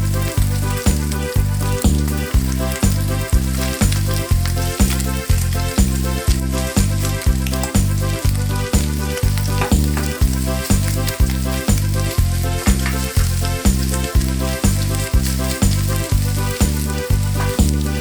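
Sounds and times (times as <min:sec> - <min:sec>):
background music with low beat: 0:00.0 - 0:18.0
food sizzling in a frying pan: 0:00.0 - 0:18.0.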